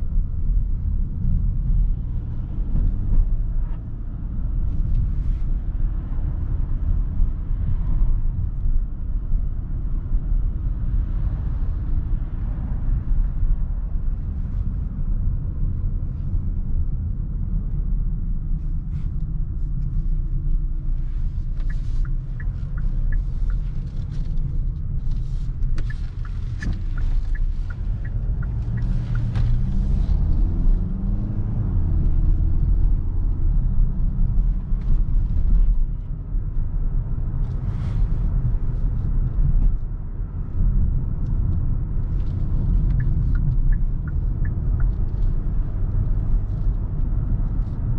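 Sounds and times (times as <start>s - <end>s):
diesel car engine rumble: 0.0s - 47.9s
road noise: 0.0s - 47.9s.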